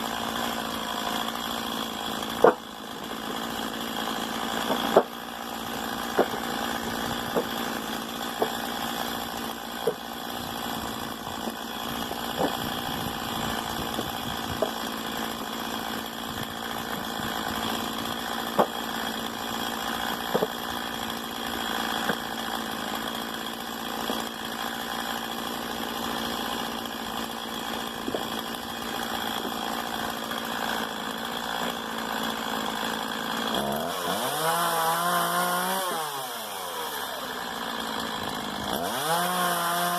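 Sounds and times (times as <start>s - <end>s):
chainsaw idling: 0.0s - 39.9s.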